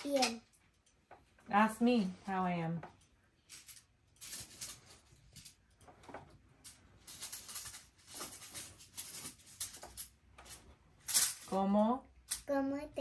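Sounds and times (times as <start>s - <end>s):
faint rustling: 0.4s - 11.7s.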